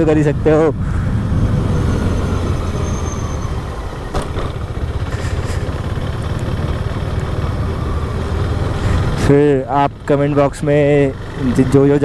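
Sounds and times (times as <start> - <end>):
motorcycle engine droning: 0.0 - 12.0
road noise: 0.0 - 12.0.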